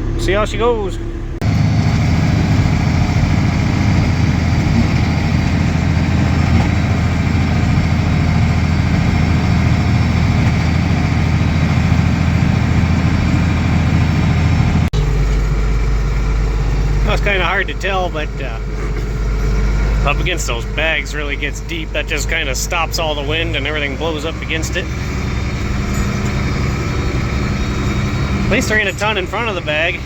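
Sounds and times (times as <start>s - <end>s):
tractor engine running: 0.0s - 30.0s
snowblower blowing snow: 1.4s - 15.4s, 16.5s - 30.0s.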